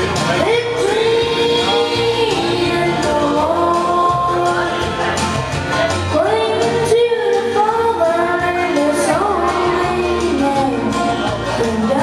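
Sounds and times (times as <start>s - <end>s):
country backing track: 0.0s - 12.0s
boy singing into microphone: 0.2s - 5.2s, 5.8s - 12.0s.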